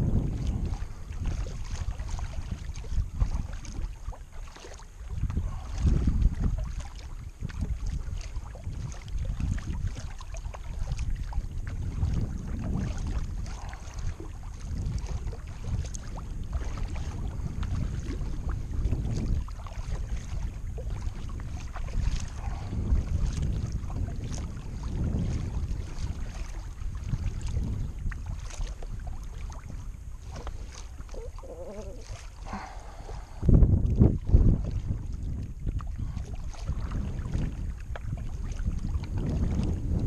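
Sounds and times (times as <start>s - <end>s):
paddle splashes and drips: 0.0s - 40.0s
wind rumble on microphone: 0.0s - 40.0s.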